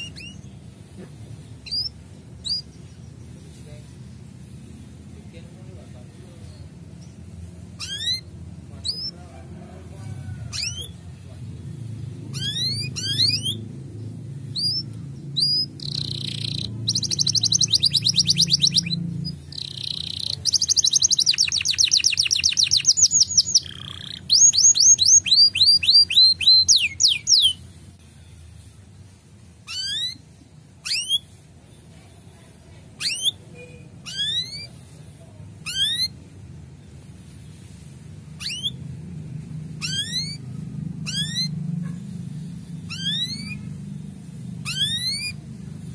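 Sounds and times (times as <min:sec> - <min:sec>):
canary singing trills and chirps: 0:00.0 - 0:09.3, 0:09.9 - 0:45.9.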